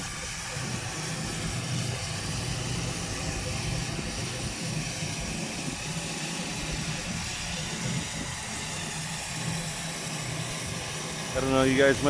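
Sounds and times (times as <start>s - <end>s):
machinery running: 0.0s - 12.0s.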